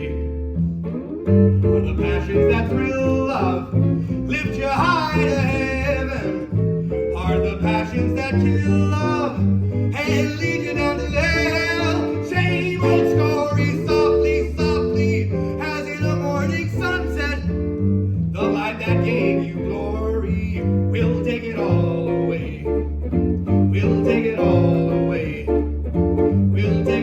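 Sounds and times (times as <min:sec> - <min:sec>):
jazz guitar playing chords: 0:00.0 - 0:27.0
walking bass line: 0:00.0 - 0:27.0.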